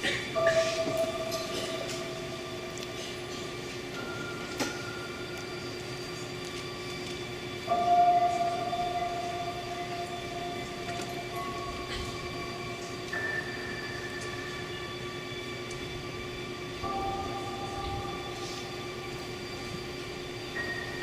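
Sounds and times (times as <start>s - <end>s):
slow instrumental music over speakers: 0.4s - 5.5s, 7.6s - 21.0s.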